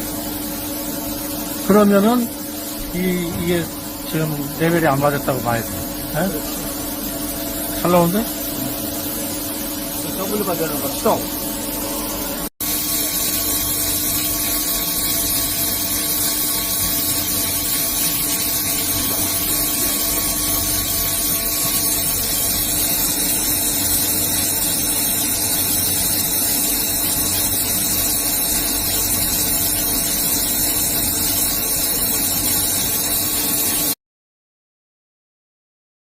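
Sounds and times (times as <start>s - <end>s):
milling machine hiss and hum: 0.0s - 34.0s.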